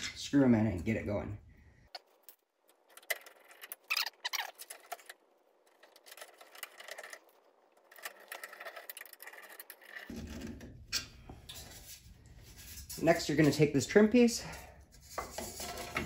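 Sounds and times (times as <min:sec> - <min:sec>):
light metal scraping and rattling: 0:02.0 - 0:16.0.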